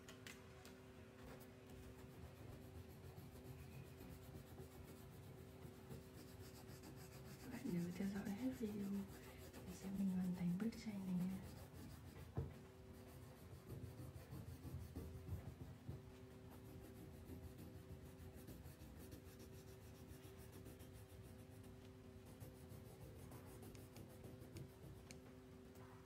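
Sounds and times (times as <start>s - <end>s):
crayon scratching on paper: 1.3s - 25.2s.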